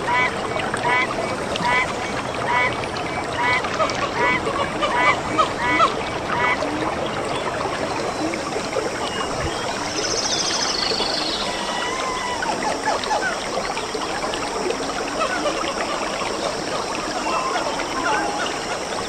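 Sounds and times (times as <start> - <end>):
stream running: 0.0 - 19.0.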